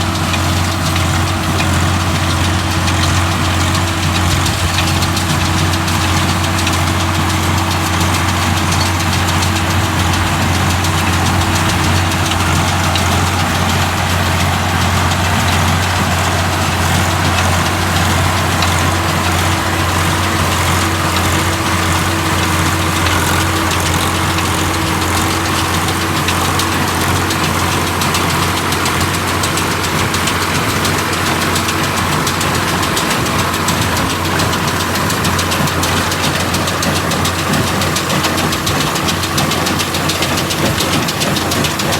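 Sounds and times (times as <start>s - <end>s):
tractor diesel engine humming: 0.0s - 41.9s.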